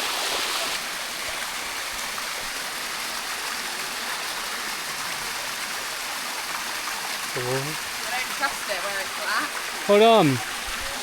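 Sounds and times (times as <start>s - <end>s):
waterfall rushing over rock: 0.0s - 11.0s.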